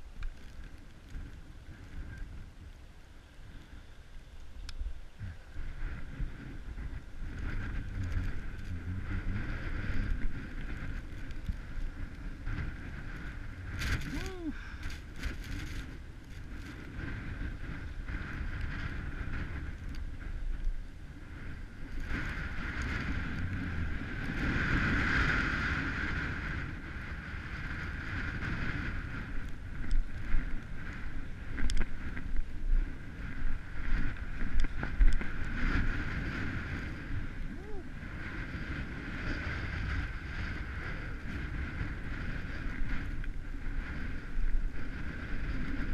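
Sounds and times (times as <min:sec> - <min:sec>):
wind buffeting microphone: 0:00.0 - 0:45.9
skis scraping over snow: 0:05.3 - 0:45.9.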